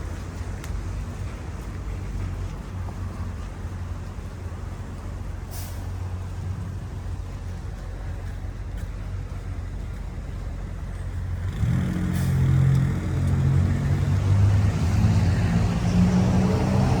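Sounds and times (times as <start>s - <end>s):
heavy vehicle engine running: 0.0s - 17.0s.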